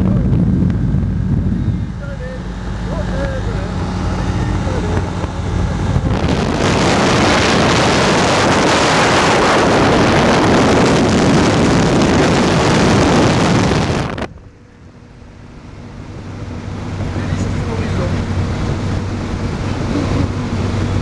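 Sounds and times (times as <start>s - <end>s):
aircraft engine drone: 0.0s - 21.0s
wind rushing over microphone: 0.0s - 21.0s.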